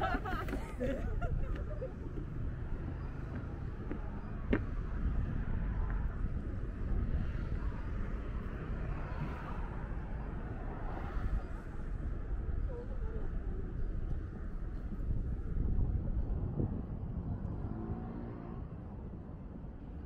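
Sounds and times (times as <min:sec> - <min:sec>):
low city rumble: 0:00.0 - 0:20.0.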